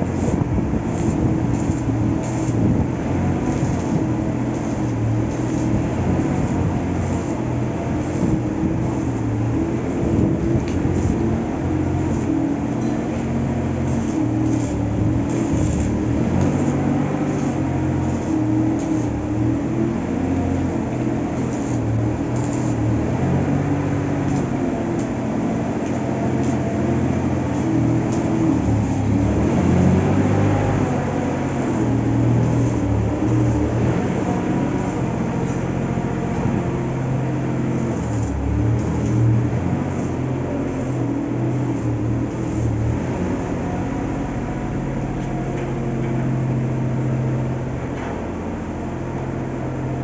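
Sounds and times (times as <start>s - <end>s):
hiss: 0.0s - 36.6s, 37.4s - 43.9s
low machine hum: 0.0s - 50.0s.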